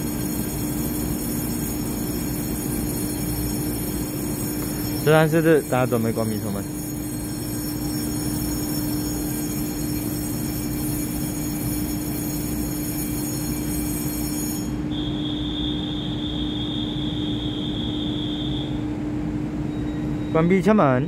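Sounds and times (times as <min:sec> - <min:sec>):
steady high beep: 0:00.0 - 0:18.7
electric train humming: 0:00.0 - 0:19.7
thin high whine: 0:00.0 - 0:20.8.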